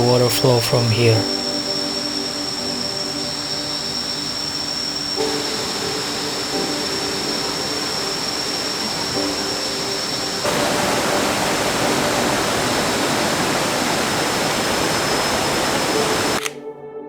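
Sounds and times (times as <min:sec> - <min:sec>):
waterfall rushing: 0:00.0 - 0:16.4
soft music with held notes: 0:00.0 - 0:17.0.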